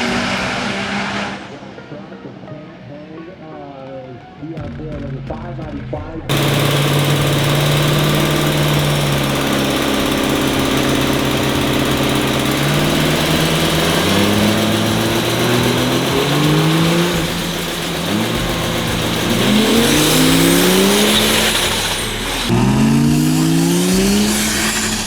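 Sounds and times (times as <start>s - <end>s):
diesel truck engine revving: 0.0s - 1.8s, 6.3s - 25.0s.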